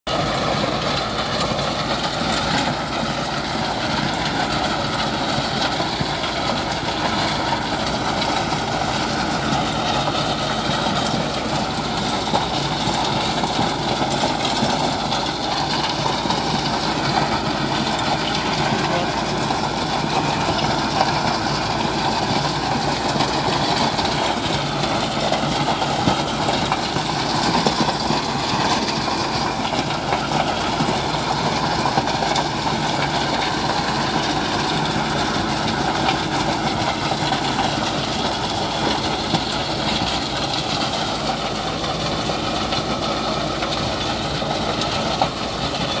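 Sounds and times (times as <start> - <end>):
tiller blades churning soil: 0.1 - 46.0
tractor diesel engine running: 0.1 - 46.0.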